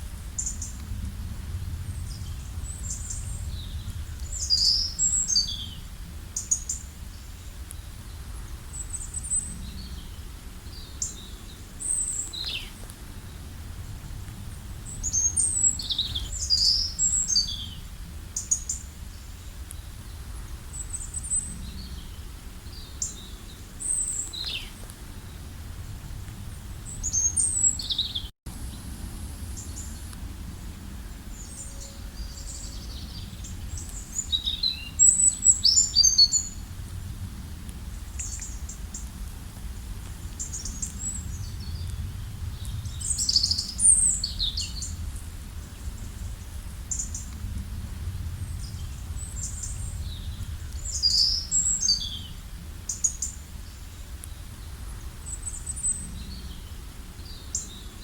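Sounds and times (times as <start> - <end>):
low steady rumble: 0.0 - 57.9
songbirds chirping and trilling: 0.0 - 58.0.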